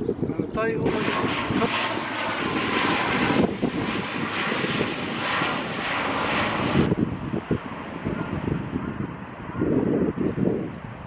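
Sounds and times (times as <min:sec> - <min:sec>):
jet airliner roaring overhead: 0:00.1 - 0:11.0.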